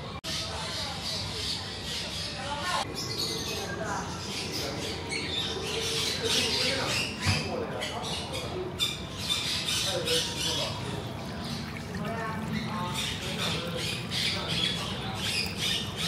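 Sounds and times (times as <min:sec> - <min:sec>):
birds squawking and chirping: 0:00.3 - 0:16.0.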